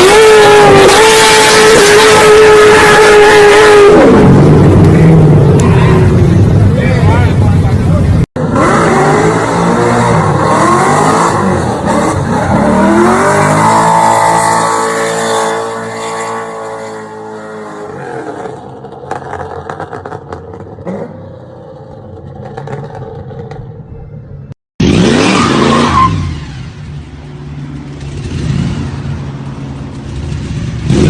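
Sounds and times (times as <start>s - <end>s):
car engine revving: 0.0s - 23.9s, 24.8s - 31.0s.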